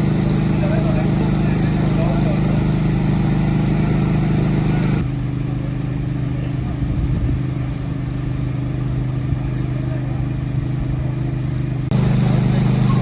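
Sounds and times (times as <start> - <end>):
large engine idling: 0.0 - 13.0.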